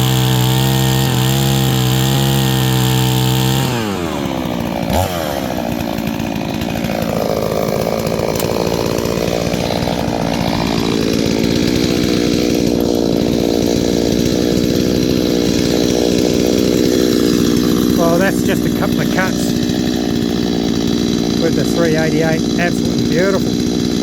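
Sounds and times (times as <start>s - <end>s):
chainsaw idling: 0.0s - 24.0s.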